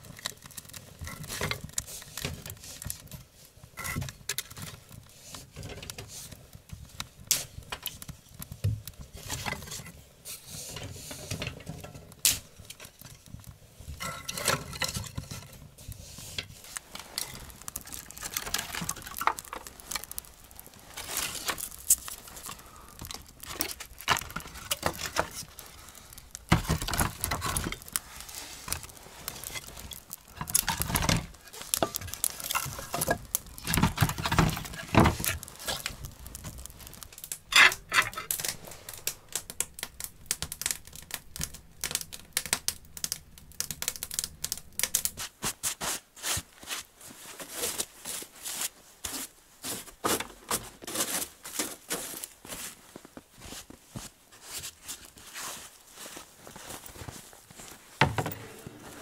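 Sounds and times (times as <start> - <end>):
sticks clattering in fire: 0.0 - 46.8, 56.4 - 59.0
wood fire crackling: 0.0 - 59.0.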